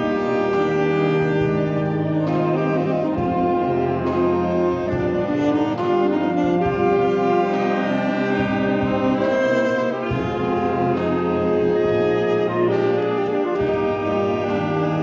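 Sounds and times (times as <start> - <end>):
alto saxophone solo: 0.0 - 15.0
wind band accompanying: 0.0 - 15.0.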